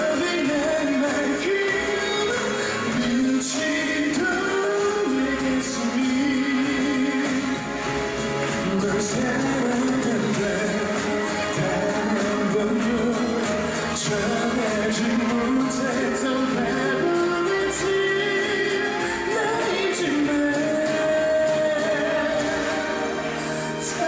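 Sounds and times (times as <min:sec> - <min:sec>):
backing music: 0:00.0 - 0:24.0
man singing pop ballad: 0:00.0 - 0:24.0.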